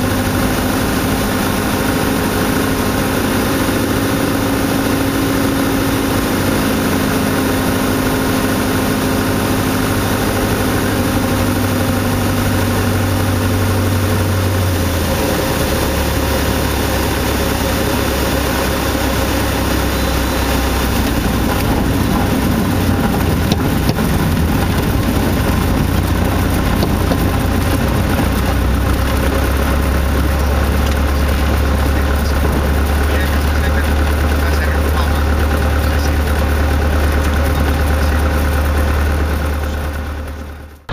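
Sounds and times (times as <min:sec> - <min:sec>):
aircraft engine and propeller droning: 0:00.0 - 0:40.9
wheels rumbling on runway: 0:00.0 - 0:40.9.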